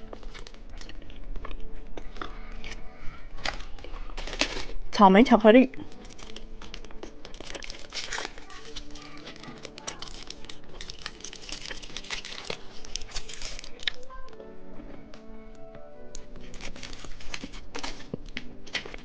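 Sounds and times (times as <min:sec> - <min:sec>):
candy wrapper crinkling and tearing: 0:00.0 - 0:04.8, 0:05.8 - 0:14.4, 0:16.2 - 0:19.0.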